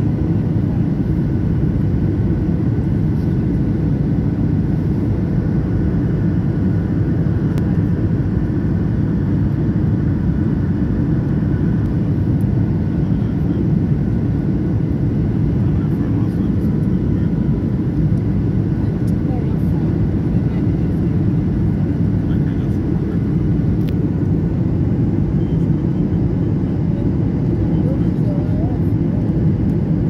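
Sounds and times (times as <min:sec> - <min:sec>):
engine and propeller drone: 0:00.0 - 0:30.0.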